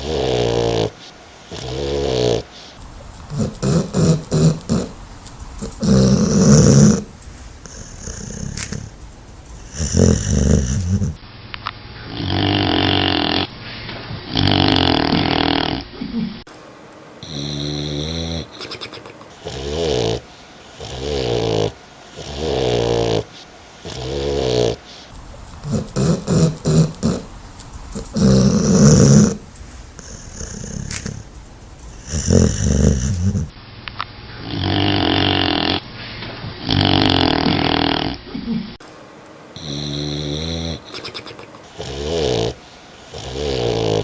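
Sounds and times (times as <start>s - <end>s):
dog snoring loudly: 0.0s - 2.7s, 3.3s - 5.0s, 5.6s - 9.0s, 9.6s - 11.2s, 12.0s - 13.5s, 14.2s - 16.0s, 17.2s - 31.3s, 31.9s - 33.6s, 34.4s - 35.9s, 36.5s - 38.4s, 39.6s - 44.0s.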